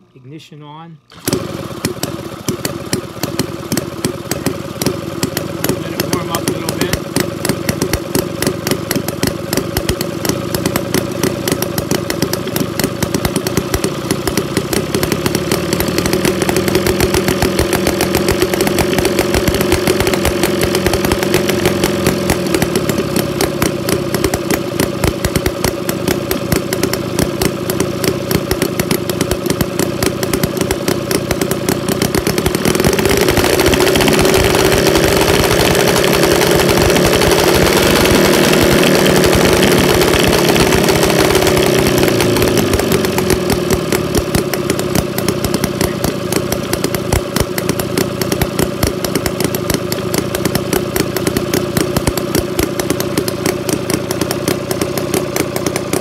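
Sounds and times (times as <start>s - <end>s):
model engine running: 0.4s - 56.0s.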